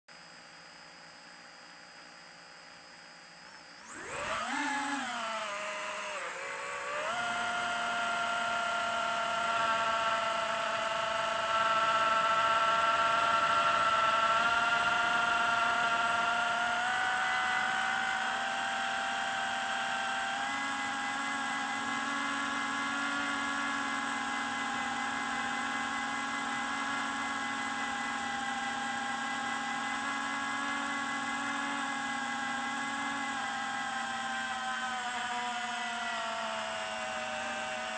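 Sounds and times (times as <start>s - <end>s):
drone motors whining: 0.3s - 37.9s.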